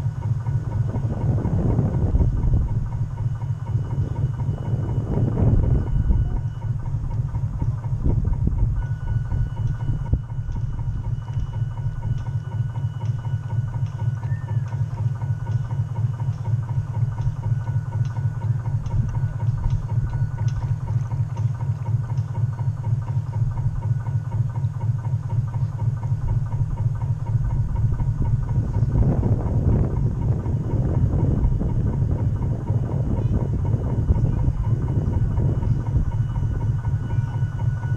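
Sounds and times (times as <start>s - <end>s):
model boat motor humming: 0.0s - 37.9s.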